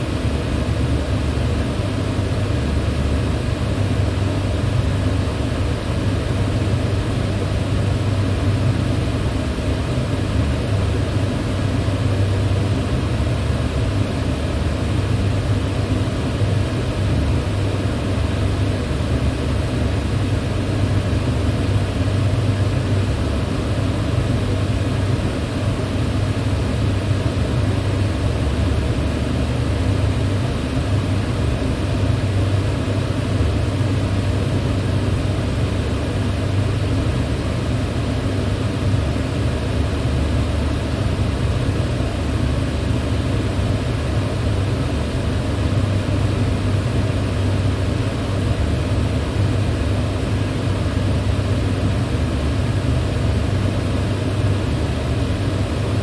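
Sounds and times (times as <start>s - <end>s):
electric fan running: 0.0s - 56.0s.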